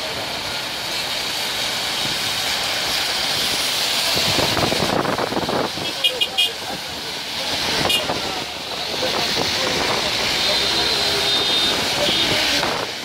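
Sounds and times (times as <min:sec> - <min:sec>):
heavy rain hissing: 0:00.0 - 0:13.0
vehicles driving on wet road: 0:00.0 - 0:13.0.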